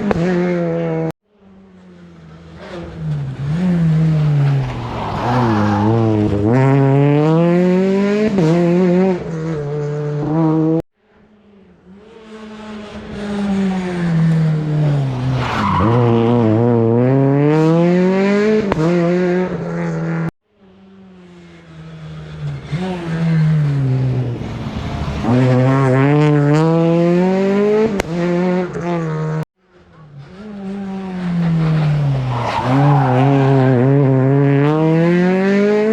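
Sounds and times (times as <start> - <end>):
rally car engine passing: 0.0 - 35.9.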